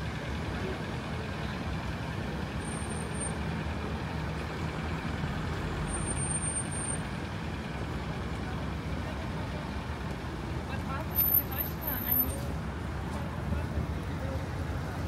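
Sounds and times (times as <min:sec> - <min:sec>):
street traffic: 0:00.0 - 0:15.0
vehicle engine rumbling: 0:00.0 - 0:15.0.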